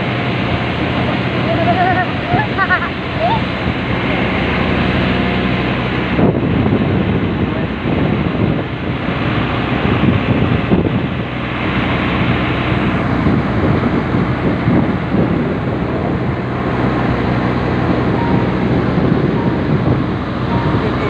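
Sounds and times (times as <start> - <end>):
boat engine running: 0.0 - 21.0
wind rushing over microphone: 0.0 - 21.0.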